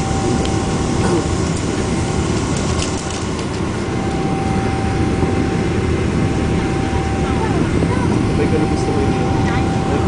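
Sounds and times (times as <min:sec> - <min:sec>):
airliner cabin rumble: 0:00.0 - 0:10.0
faint steady whine: 0:00.0 - 0:10.0.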